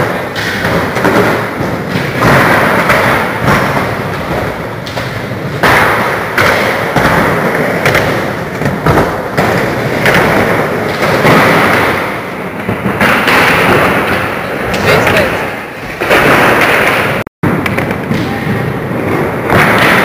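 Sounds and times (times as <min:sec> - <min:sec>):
skateboard wheels rumbling on ramps: 0:00.0 - 0:20.0
skateboards thudding on ramps: 0:00.0 - 0:20.0.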